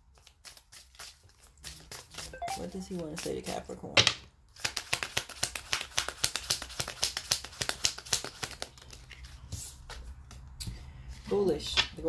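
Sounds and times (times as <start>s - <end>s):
cards being shuffled: 0.1s - 3.6s, 4.6s - 12.0s.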